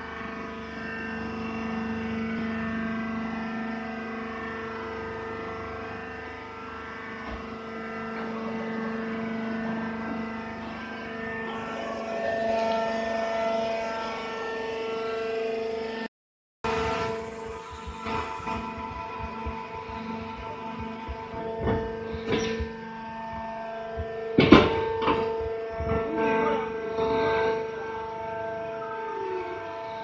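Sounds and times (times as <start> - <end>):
baler machine droning: 0.0 - 30.0.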